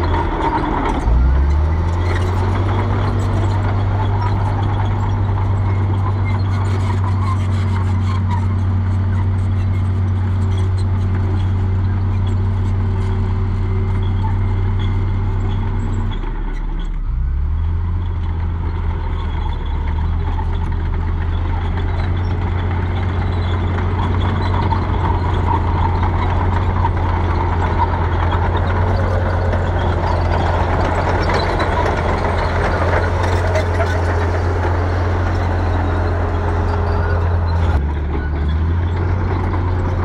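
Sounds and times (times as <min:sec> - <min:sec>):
bulldozer diesel engine running: 0:00.0 - 0:40.0.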